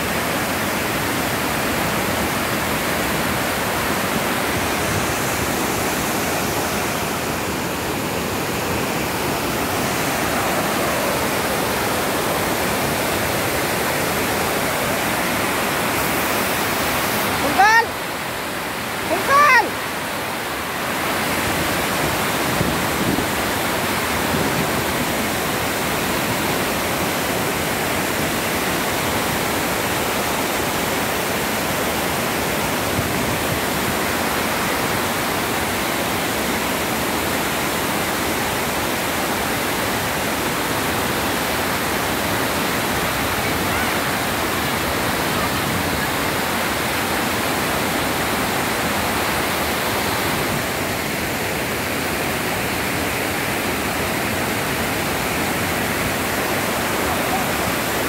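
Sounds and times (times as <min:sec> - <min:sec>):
water rushing down rocks: 0:00.0 - 0:58.0.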